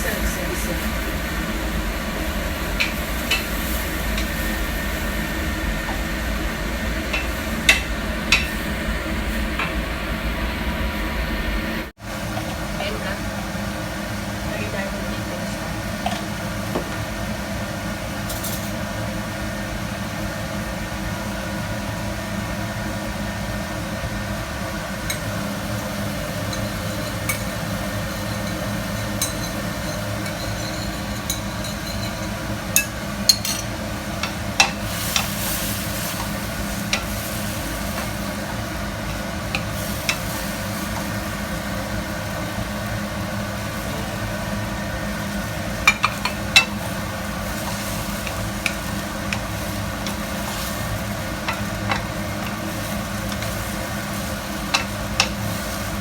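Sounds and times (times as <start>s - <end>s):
steady hum: 0.0s - 56.0s
stir-fry sizzling in a pan: 0.0s - 56.0s.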